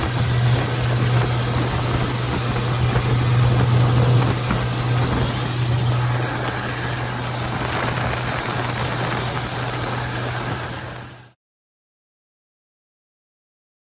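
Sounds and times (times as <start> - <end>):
combine harvester engine hum: 0.0 - 11.4.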